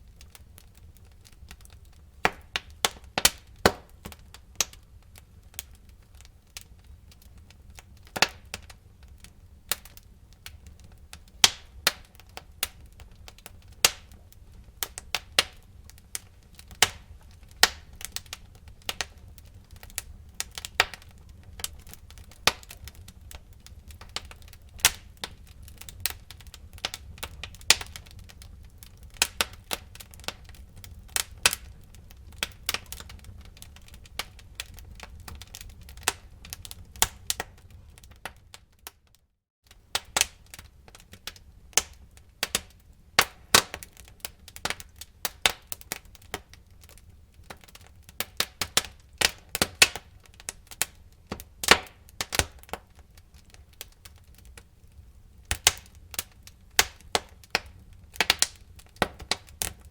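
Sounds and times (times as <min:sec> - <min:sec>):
burning wood crackling and popping: 0:00.0 - 0:59.9.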